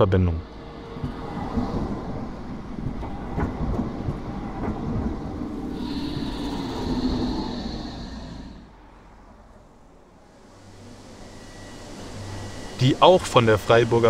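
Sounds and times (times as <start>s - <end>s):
high steady whine: 0.0s - 14.0s
tram wheels rumbling on rails: 0.0s - 14.0s
motor hum: 0.4s - 14.0s.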